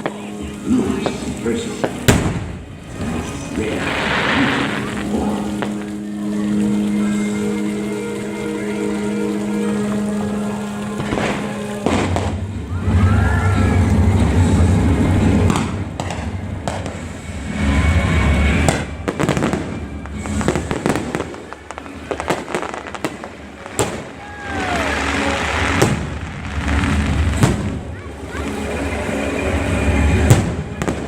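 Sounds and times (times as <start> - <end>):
fireworks booming and cracking: 0.0 - 7.1, 10.9 - 31.0
music playing: 0.0 - 31.0.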